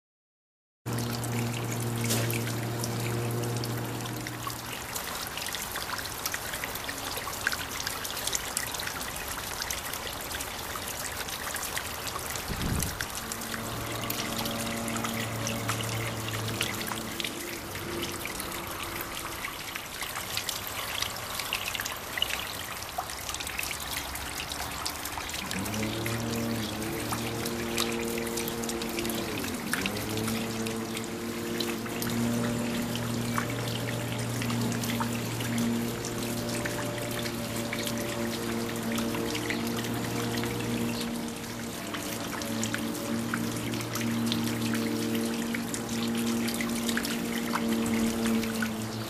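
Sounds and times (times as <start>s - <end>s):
water trickling and splashing: 0.9s - 49.0s.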